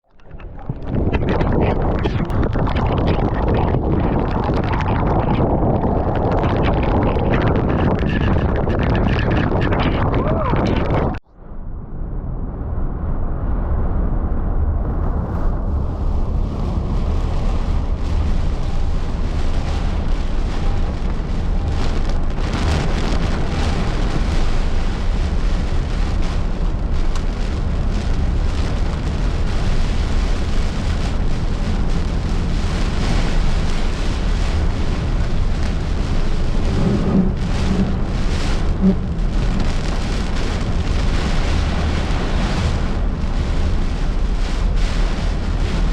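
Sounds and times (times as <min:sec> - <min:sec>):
wind rumbling: 0:00.0 - 0:45.9
rain hissing: 0:00.2 - 0:11.2, 0:16.7 - 0:45.9.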